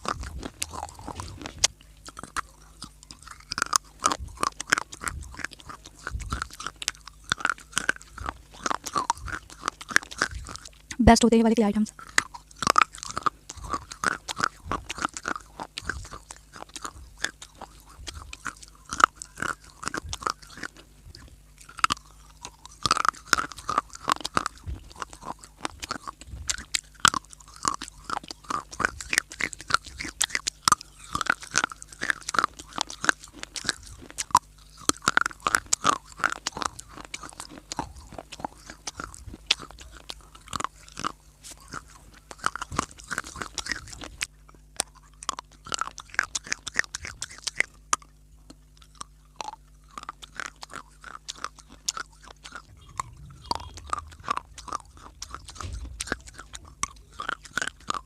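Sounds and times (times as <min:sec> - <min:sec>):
clay being crunched and chewed: 0:00.0 - 0:11.0, 0:11.9 - 0:58.0.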